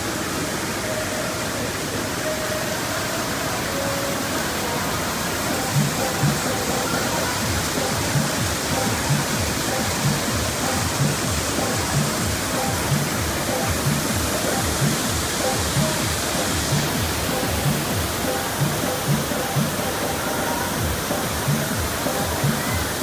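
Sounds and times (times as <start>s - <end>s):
faint background music: 0.0s - 23.0s
stream rushing: 0.0s - 23.0s.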